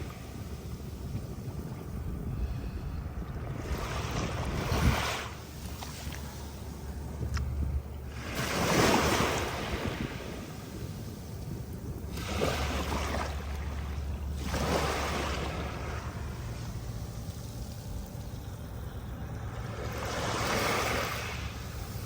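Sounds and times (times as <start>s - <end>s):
low steady rumble: 0.0s - 22.0s
sea waves breaking: 0.0s - 22.0s.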